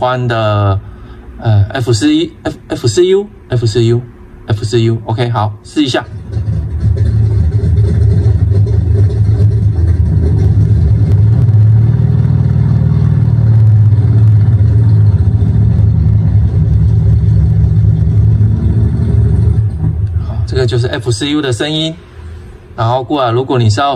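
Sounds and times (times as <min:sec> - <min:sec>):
simulated piston engine rumble: 0:00.0 - 0:23.9.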